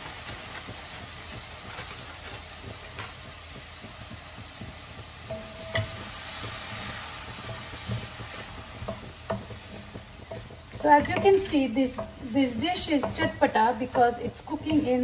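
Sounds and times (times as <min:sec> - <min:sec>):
vegetables sizzling in a pan: 0:00.0 - 0:15.0
spatula scraping a pan: 0:00.1 - 0:15.0.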